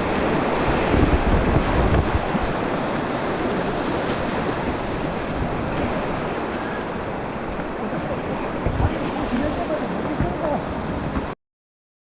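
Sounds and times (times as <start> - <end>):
whitewater rushing in stream: 0.0 - 11.4.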